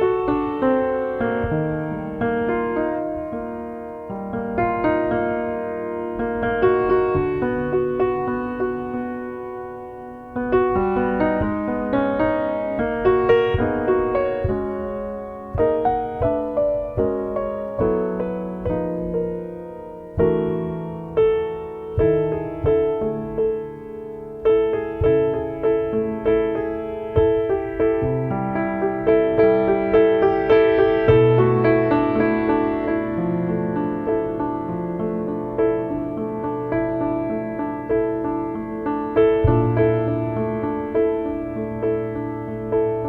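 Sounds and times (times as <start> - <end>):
solo piano music: 0.0 - 43.0.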